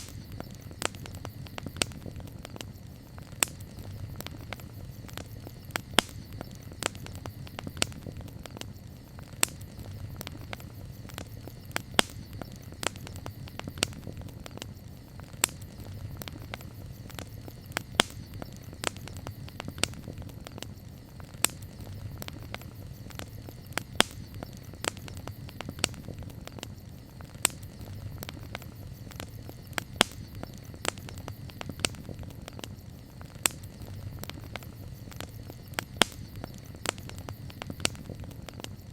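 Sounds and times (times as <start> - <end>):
campfire crackling and popping: 0.0 - 38.9
low rumble of fire: 0.0 - 38.9.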